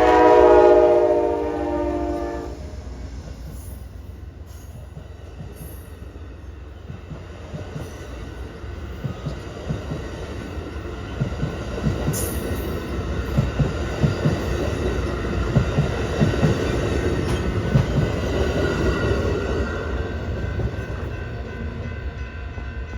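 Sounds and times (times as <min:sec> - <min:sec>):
train passing with low rumble: 0:00.0 - 0:22.9.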